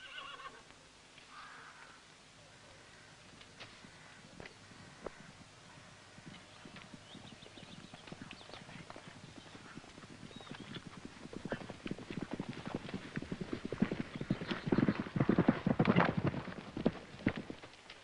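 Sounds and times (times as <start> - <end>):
horse hoofbeats: 3.3 - 18.0.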